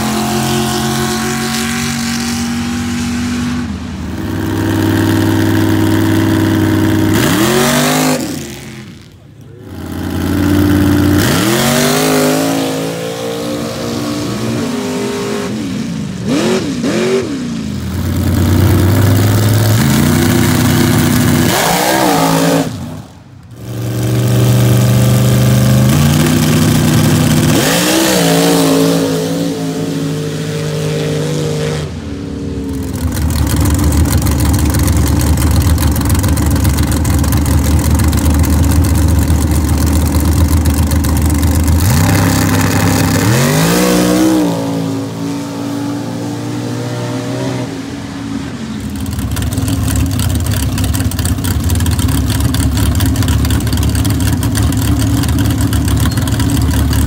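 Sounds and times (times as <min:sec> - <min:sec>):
race vehicles revving and launching: 0:00.0 - 0:57.0.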